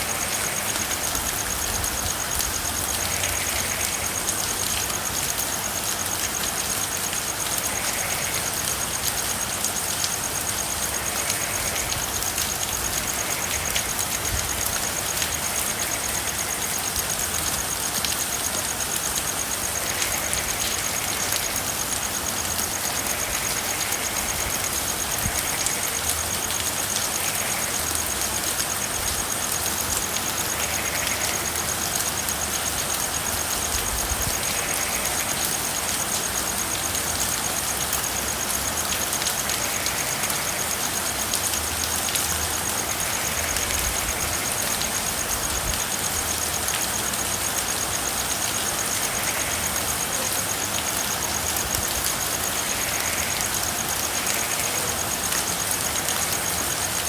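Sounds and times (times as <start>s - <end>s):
frogs calling: 0.0s - 57.0s
steady rain: 0.0s - 57.0s.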